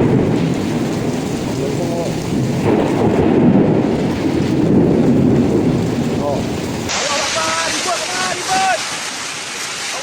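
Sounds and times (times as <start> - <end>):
heavy rain: 0.0 - 10.0
strong wind: 0.0 - 10.0.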